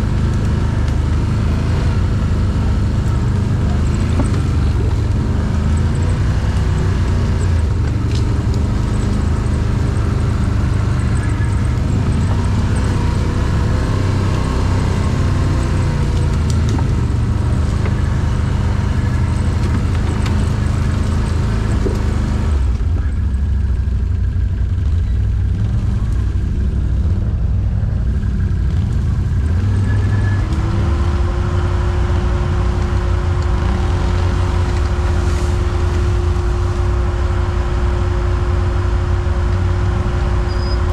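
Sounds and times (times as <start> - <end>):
quad bike engines running: 0.0 - 40.9.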